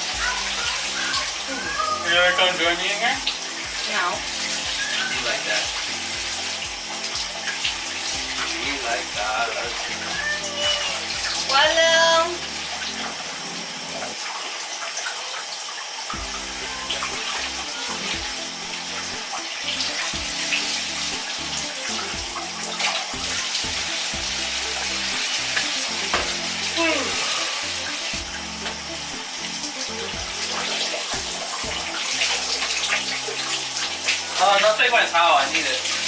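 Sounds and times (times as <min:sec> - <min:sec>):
shower water spraying: 0:00.0 - 0:36.0.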